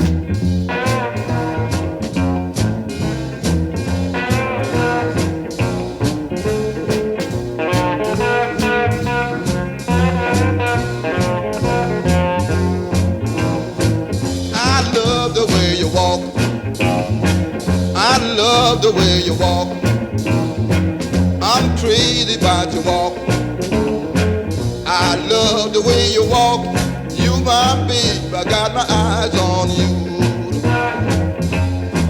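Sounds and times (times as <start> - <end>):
upbeat blues song: 0.0 - 32.0.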